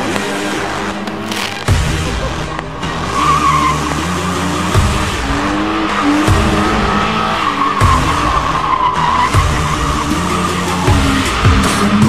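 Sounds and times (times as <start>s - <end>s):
car engine running: 0.0s - 12.0s
tyres squealing: 0.3s - 12.0s.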